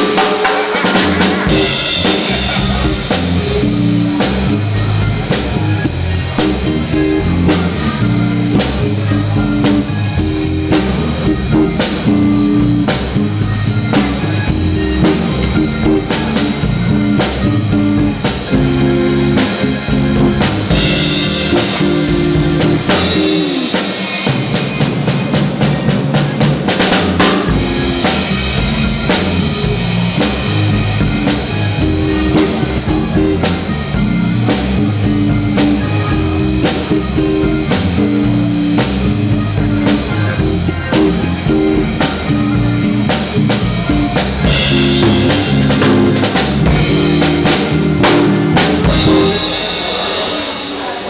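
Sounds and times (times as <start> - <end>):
drum kit with cymbals: 0.0 - 51.0
live band playing: 0.0 - 51.0
low bass line: 1.0 - 23.8, 26.8 - 50.0.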